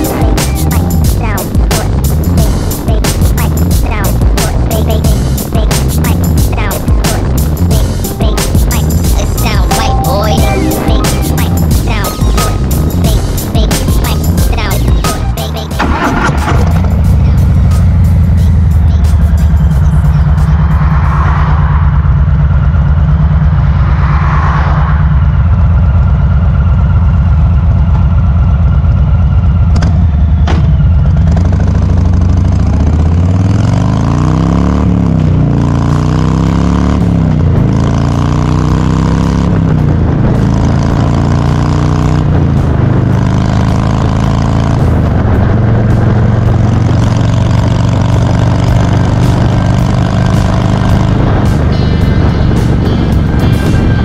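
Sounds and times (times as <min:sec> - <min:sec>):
motorcycle engine running and accelerating: 0:00.0 - 0:54.0.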